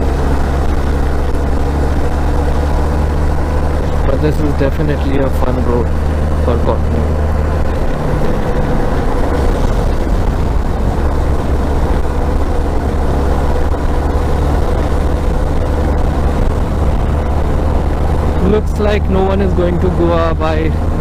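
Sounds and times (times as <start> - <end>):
motorcycle engine cruising: 0.0 - 21.0
riding wind rush: 0.0 - 21.0.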